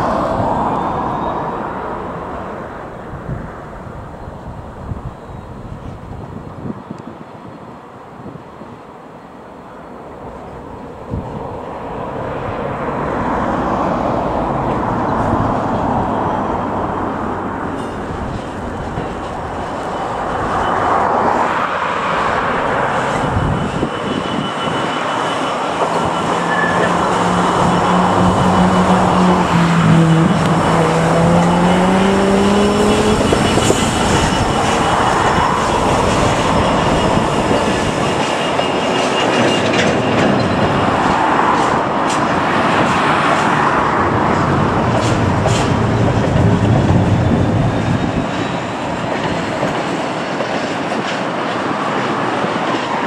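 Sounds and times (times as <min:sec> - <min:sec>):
diesel locomotive engine: 0:00.0 - 0:53.0
train wagon wheels rolling: 0:10.4 - 0:53.0.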